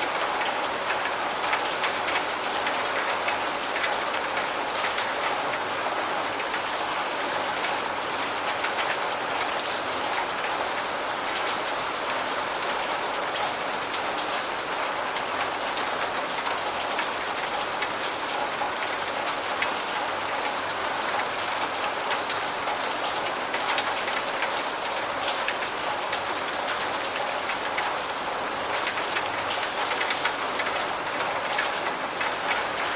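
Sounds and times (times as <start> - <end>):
raindrop ticks: 0.0 - 10.7, 14.2 - 32.9
steady rain hiss: 0.0 - 32.9.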